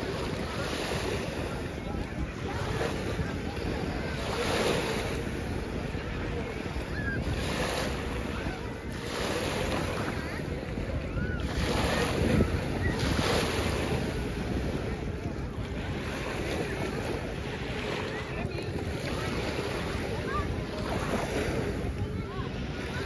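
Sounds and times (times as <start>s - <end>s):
lake waves lapping: 0.0s - 23.0s
wind buffeting microphone: 0.0s - 23.0s.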